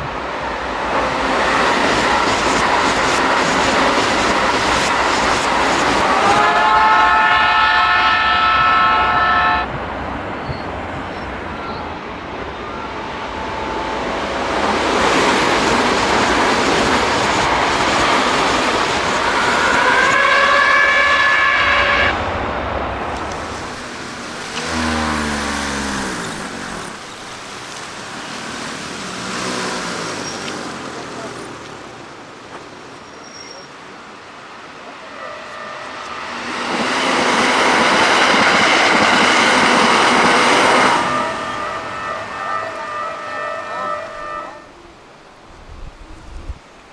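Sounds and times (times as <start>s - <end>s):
reversed train inverter whine: 0.0s - 46.9s
train running noise: 0.0s - 46.9s.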